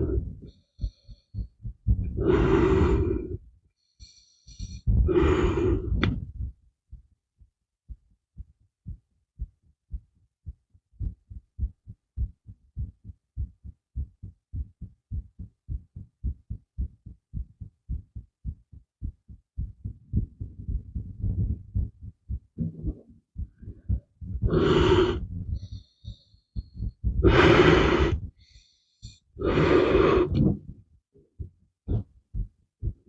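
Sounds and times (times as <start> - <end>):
heartbeat thumps: 0.0 - 3.6, 4.5 - 33.0.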